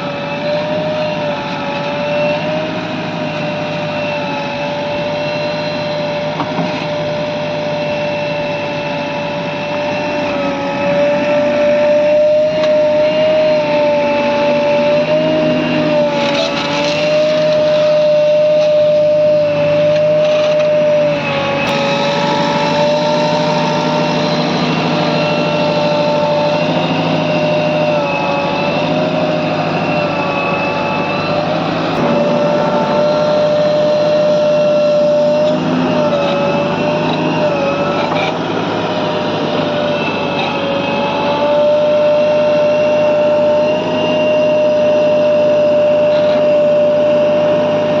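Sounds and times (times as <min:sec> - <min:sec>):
heavy diesel engine running: 0:00.0 - 0:48.0
loud high whine: 0:00.0 - 0:48.0.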